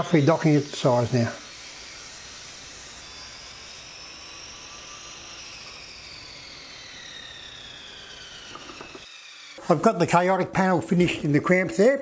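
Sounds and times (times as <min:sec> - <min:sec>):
electric motor whirring down: 0:00.0 - 0:09.7.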